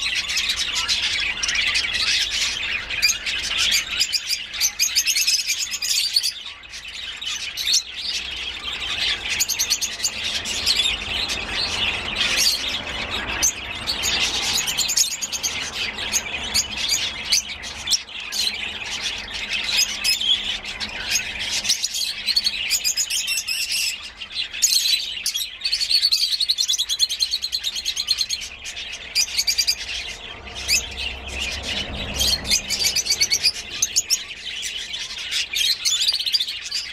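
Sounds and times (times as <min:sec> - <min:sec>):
lovebirds chirping and twittering: 0:00.0 - 0:36.9.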